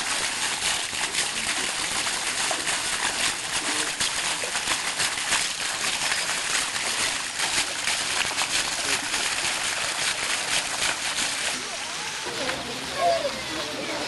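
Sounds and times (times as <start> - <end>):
running water splashing: 0.0 - 14.0.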